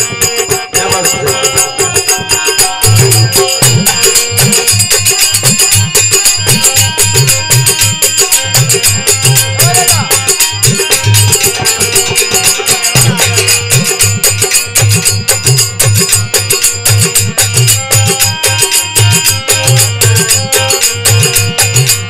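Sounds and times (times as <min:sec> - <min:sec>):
fast dholak beat: 0:00.0 - 0:22.0
harmonium melody: 0:00.0 - 0:22.0
metallic jingle: 0:00.0 - 0:22.0.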